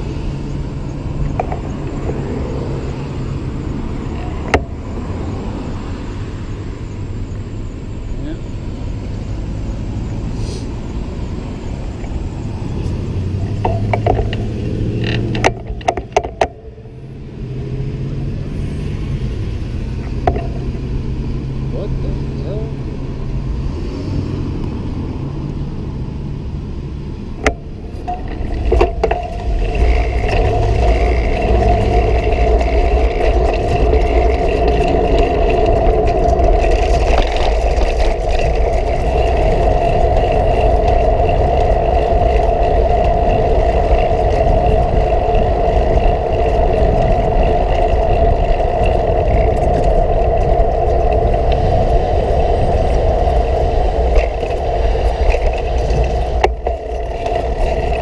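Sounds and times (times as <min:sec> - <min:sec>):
bicycle riding hum: 0:00.0 - 0:58.0
wind rumble on microphone: 0:00.0 - 0:58.0.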